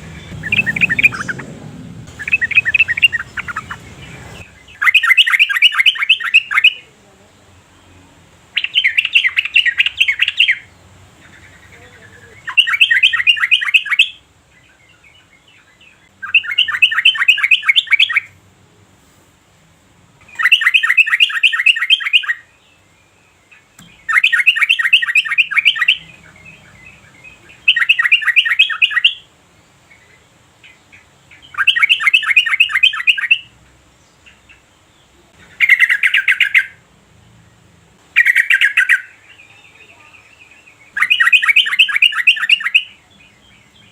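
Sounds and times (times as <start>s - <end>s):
bird singing chattering phrases: 0.0s - 18.4s, 20.2s - 43.9s.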